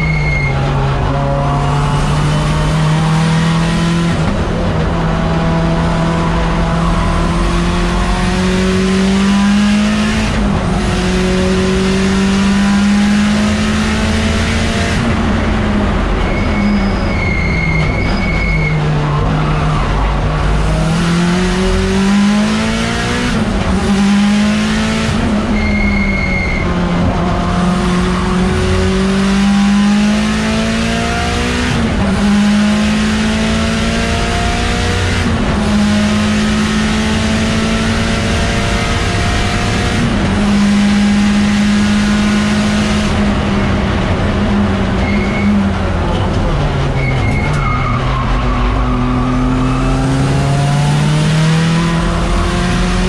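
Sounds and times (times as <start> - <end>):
car engine at full throttle: 0.0 - 53.0.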